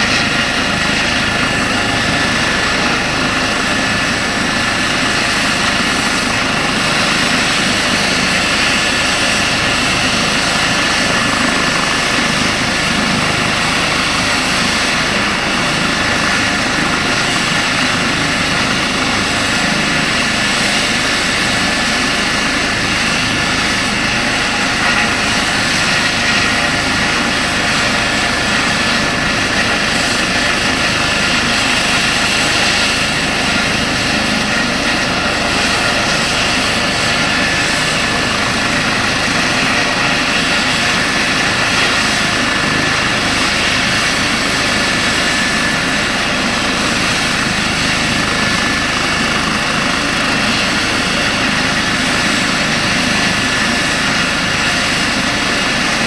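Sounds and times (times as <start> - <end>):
helicopter rotor noise: 0.0 - 56.0
helicopter turbine whine: 0.0 - 56.0.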